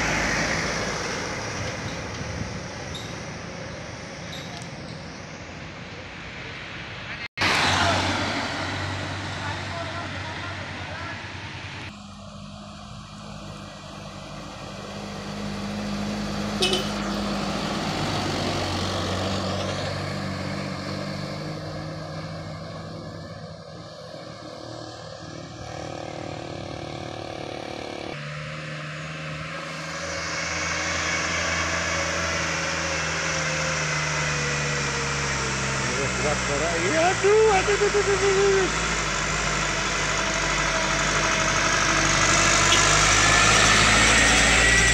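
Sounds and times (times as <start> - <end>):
heavy truck diesel engines: 0.0 - 44.9.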